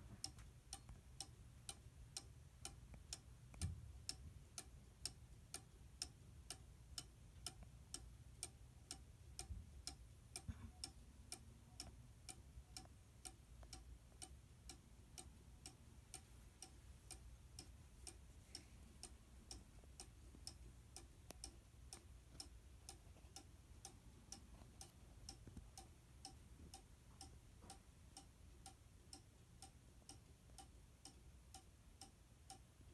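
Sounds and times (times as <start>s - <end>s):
clock ticking: 0.0s - 32.9s.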